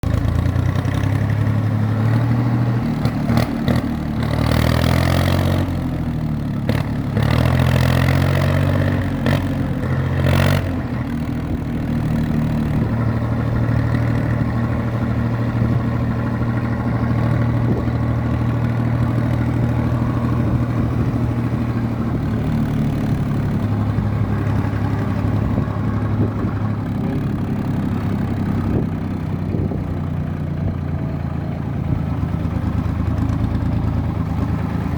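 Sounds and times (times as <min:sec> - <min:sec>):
tractor diesel engine revving: 0:00.0 - 0:34.9.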